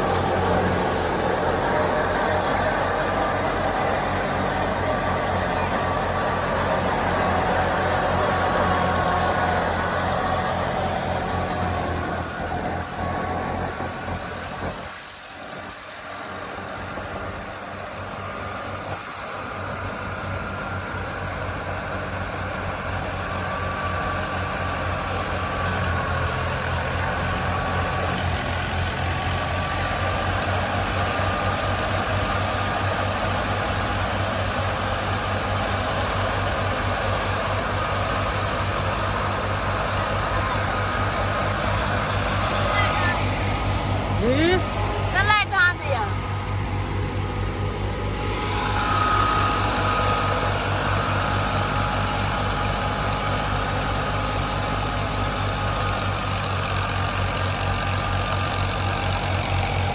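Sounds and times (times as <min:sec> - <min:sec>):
thresher humming whir: 0:00.0 - 0:59.9
tractor diesel engine running: 0:00.0 - 0:59.9.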